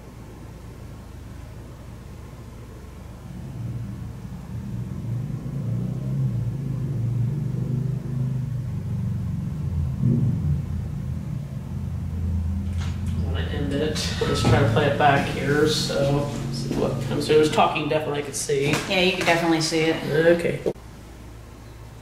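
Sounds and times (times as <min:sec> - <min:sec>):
low rumbling hum: 0:00.0 - 0:22.0.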